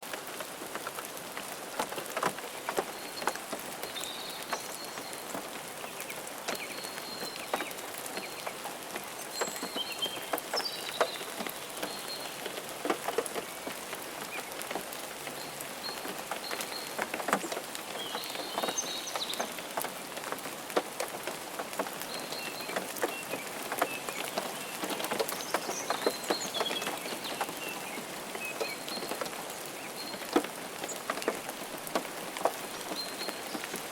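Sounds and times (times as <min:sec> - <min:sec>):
raindrops striking a surface: 0:00.0 - 0:33.9
steady rain falling: 0:00.0 - 0:33.9.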